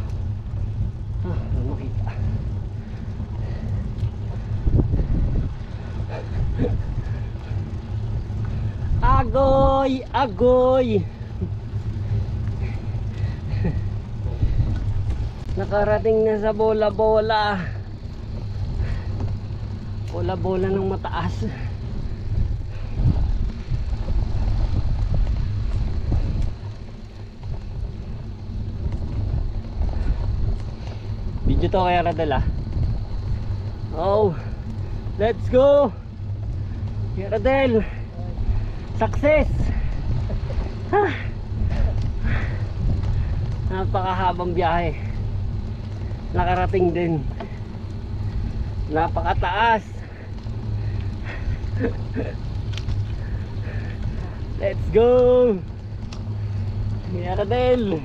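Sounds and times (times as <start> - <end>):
road noise: 0.0 - 58.0
wind buffeting microphone: 0.0 - 58.0.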